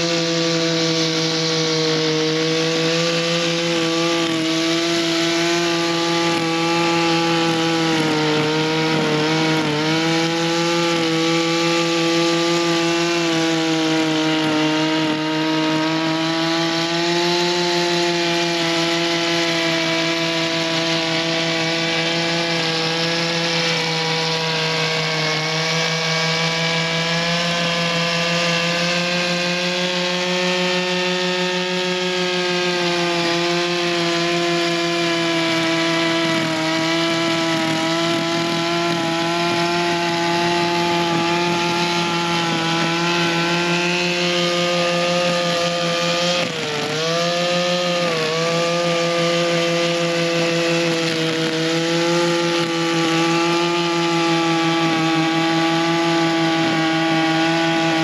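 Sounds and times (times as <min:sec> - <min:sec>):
string trimmer engine at high speed: 0:00.0 - 0:58.0.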